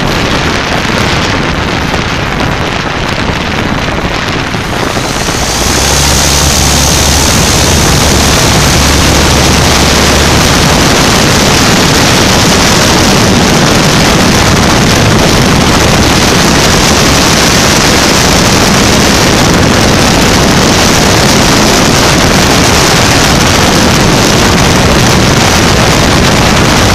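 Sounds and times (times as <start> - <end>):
aircraft engine and propeller: 0.0 - 26.9
wind rush on microphone: 0.0 - 26.9.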